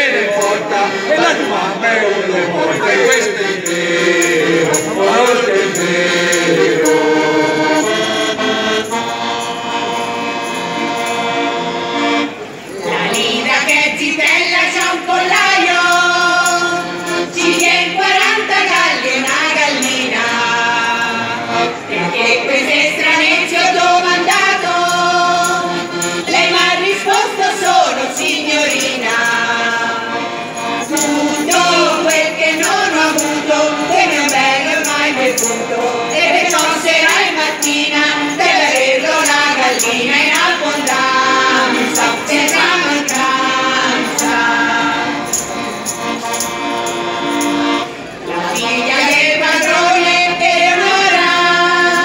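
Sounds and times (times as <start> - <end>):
folk choir singing: 0.0 - 52.0
tambourines jingling: 3.0 - 11.6, 12.7 - 21.2, 22.7 - 52.0.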